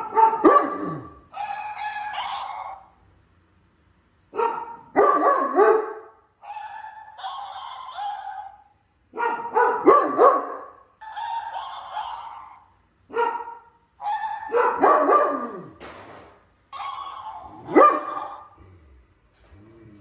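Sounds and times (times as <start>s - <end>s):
dog barking and yipping: 0.0s - 2.9s, 4.3s - 15.8s, 16.7s - 18.6s.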